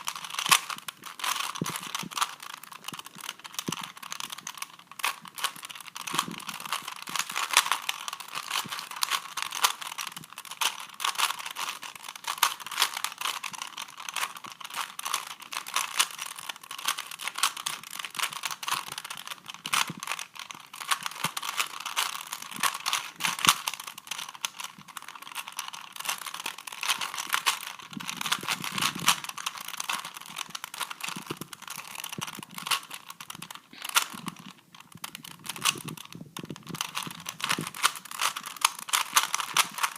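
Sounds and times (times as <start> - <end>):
puzzle cube plastic clicks: 0.0 - 39.9.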